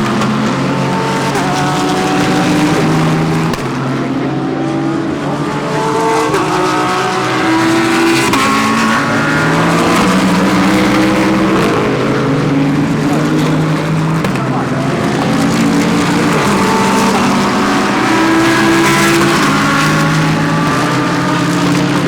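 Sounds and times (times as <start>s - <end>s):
race car engines through gear changes: 0.0s - 22.0s.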